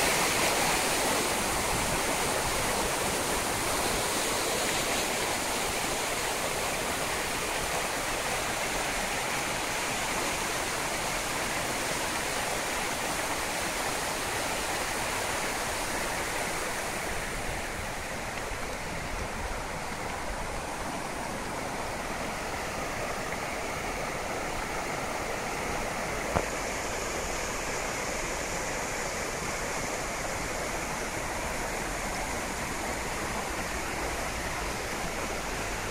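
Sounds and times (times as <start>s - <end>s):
floodwater rushing: 0.0s - 35.9s.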